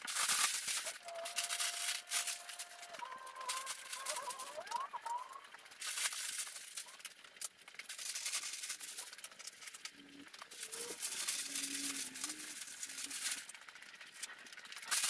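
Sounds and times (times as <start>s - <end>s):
packing paper rustling: 0.0s - 15.0s.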